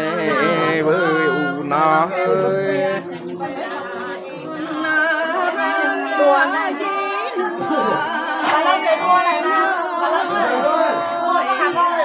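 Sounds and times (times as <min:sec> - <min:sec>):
people talking: 0:00.0 - 0:12.0
unaccompanied voices singing folk song: 0:00.0 - 0:12.0.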